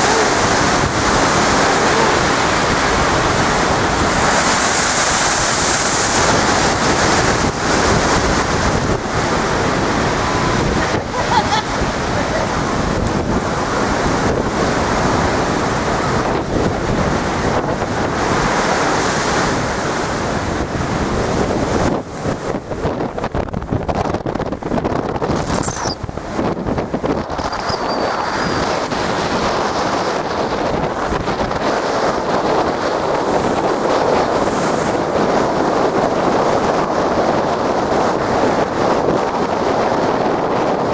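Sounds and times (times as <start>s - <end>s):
waves breaking against sea wall: 0.0s - 40.9s
wind buffeting microphone: 0.0s - 40.9s.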